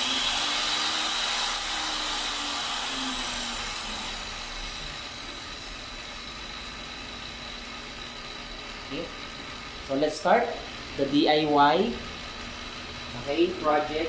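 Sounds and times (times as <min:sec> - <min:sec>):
angle grinder motor whine: 0:00.0 - 0:14.0.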